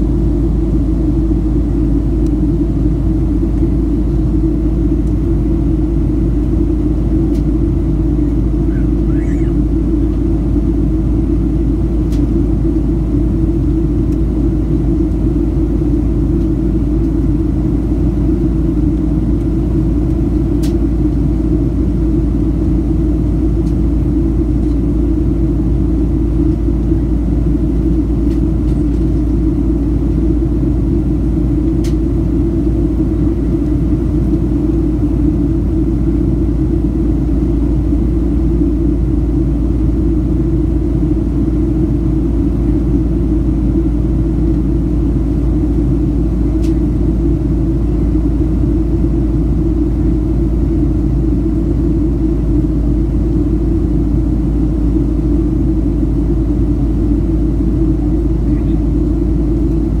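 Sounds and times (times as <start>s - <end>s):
jet engine cabin drone: 0.0s - 60.0s.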